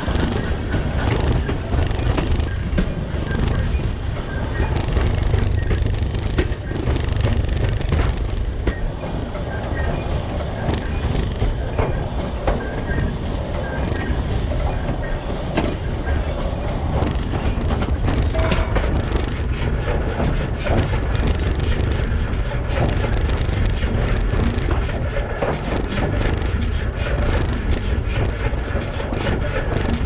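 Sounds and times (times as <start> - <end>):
train cars rumbling on track: 0.0 - 30.0
wheels clicking over rail joints: 0.0 - 30.0.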